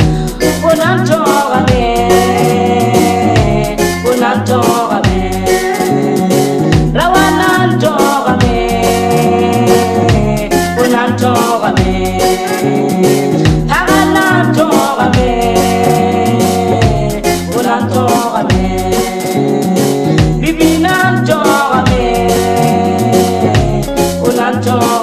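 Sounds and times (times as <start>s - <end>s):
person singing: 0.0s - 25.0s
repeating bass line: 0.0s - 25.0s
steady beat: 0.0s - 25.0s.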